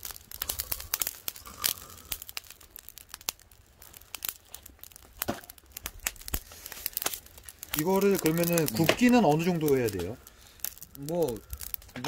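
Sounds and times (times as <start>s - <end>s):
charcoal fire crackling: 0.0s - 12.0s
sharp pops and clicks: 0.0s - 12.0s.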